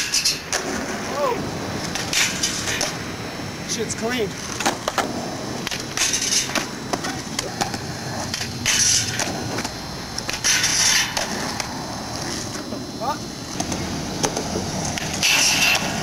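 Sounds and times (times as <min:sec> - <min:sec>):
skateboard clacking: 0:00.0 - 0:03.2, 0:04.3 - 0:16.0
skateboard scraping: 0:00.0 - 0:03.4, 0:04.3 - 0:16.0
skateboard wheels rolling on concrete: 0:00.0 - 0:16.0.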